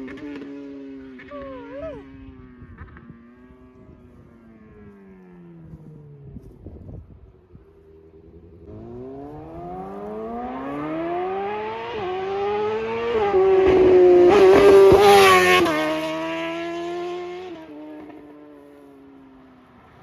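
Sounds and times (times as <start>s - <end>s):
motorcycle accelerating hard: 0.0s - 20.0s.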